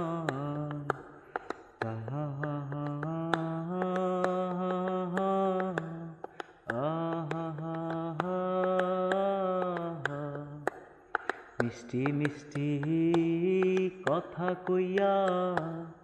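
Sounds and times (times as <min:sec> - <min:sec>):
man singing long notes: 0:00.0 - 0:10.7, 0:11.5 - 0:16.0
percussion clicks: 0:00.0 - 0:16.0.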